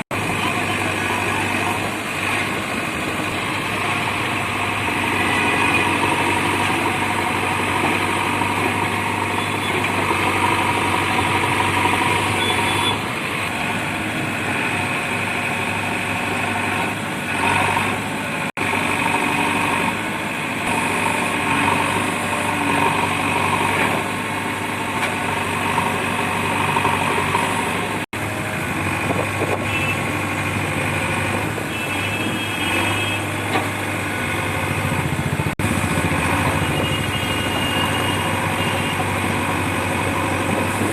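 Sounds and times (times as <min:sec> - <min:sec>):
heavy diesel engines running: 0:00.0 - 0:40.9.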